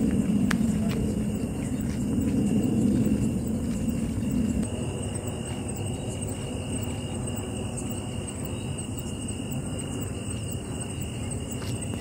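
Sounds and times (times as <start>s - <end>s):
constant low rumble: 0.0s - 12.0s
insects chirping: 0.0s - 12.0s.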